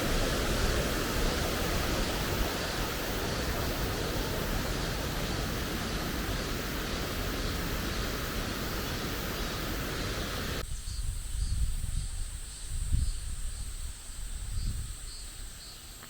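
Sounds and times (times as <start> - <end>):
rushing water hiss: 0.0 - 16.0.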